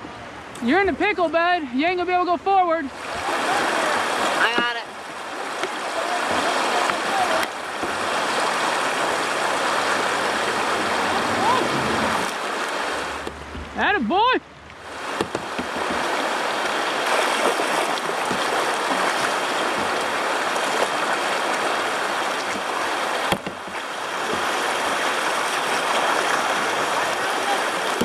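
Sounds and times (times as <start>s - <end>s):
rushing river water: 0.0s - 28.0s.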